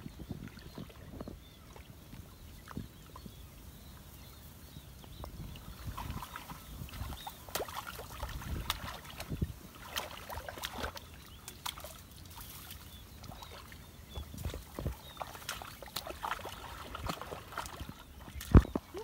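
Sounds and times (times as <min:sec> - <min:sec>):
muddy water sloshing and splashing: 0:00.0 - 0:04.1, 0:05.1 - 0:19.0.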